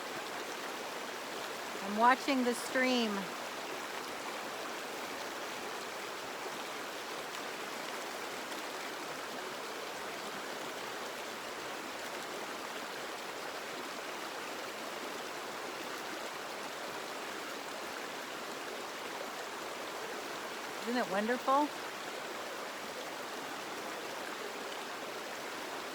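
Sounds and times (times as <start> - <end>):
stream water flowing over rocks: 0.0 - 25.9.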